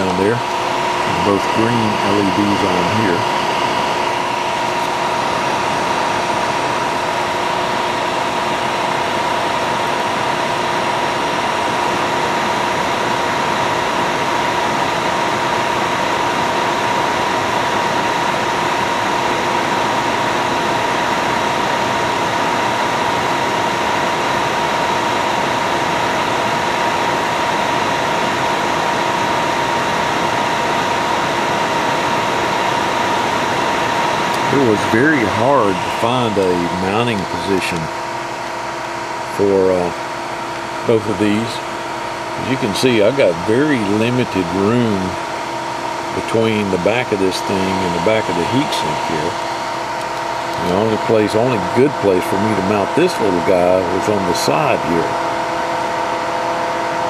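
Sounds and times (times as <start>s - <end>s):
cooling fans whirring with thin whine: 0.0s - 57.0s.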